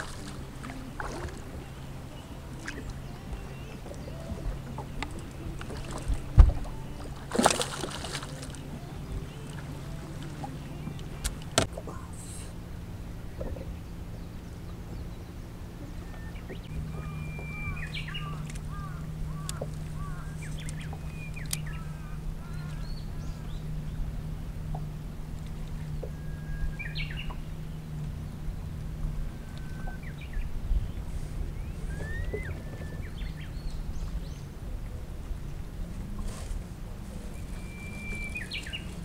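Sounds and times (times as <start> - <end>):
birds chirping and whistling: 0.0 - 11.7, 13.0 - 24.0, 25.8 - 34.5, 36.3 - 39.0
steady low hum: 0.0 - 39.0.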